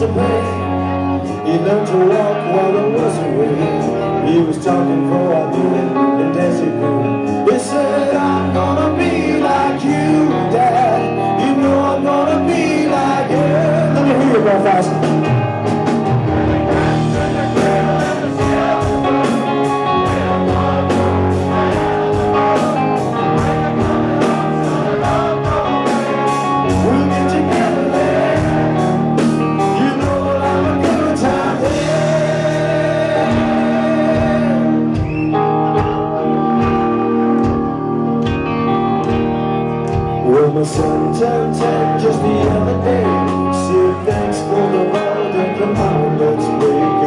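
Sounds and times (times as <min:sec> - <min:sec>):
crowd singing: 0:00.0 - 0:47.0
drums: 0:00.0 - 0:47.0
electric guitars: 0:00.0 - 0:47.0.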